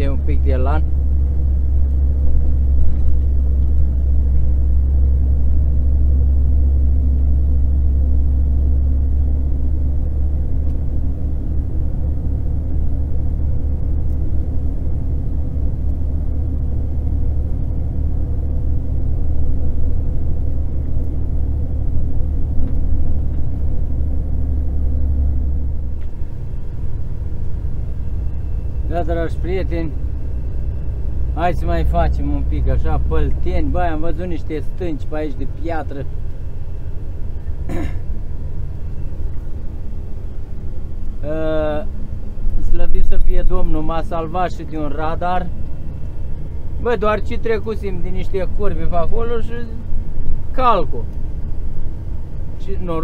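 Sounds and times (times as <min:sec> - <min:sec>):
faint engine drone: 0:00.0 - 0:53.0
low road and engine rumble: 0:00.0 - 0:53.0.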